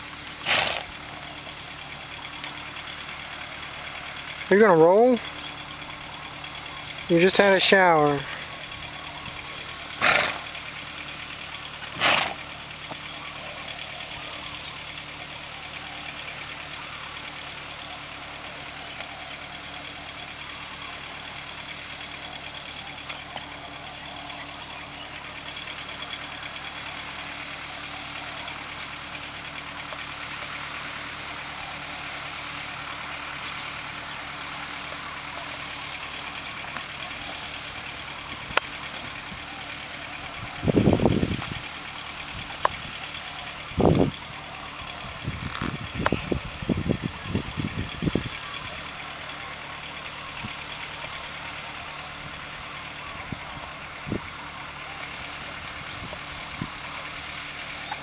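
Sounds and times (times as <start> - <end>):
low engine-like hum: 0.0 - 58.0.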